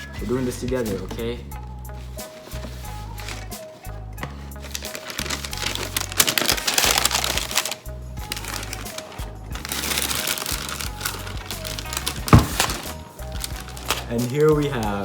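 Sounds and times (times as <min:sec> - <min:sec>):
background music: 0:00.0 - 0:15.0
paper rustling and crinkling: 0:00.1 - 0:15.0.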